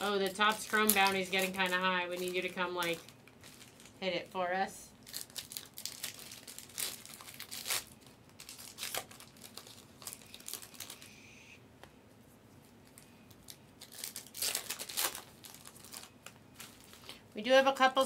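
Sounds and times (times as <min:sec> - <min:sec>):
foil wrapper crinkling: 0:00.0 - 0:04.4, 0:05.0 - 0:11.2, 0:12.8 - 0:18.0.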